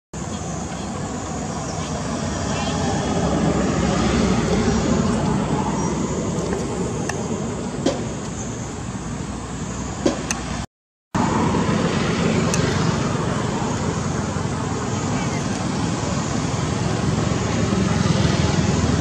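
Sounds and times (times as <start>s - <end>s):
motorbike: 0.2s - 10.6s, 11.2s - 19.0s
road traffic: 0.2s - 19.0s.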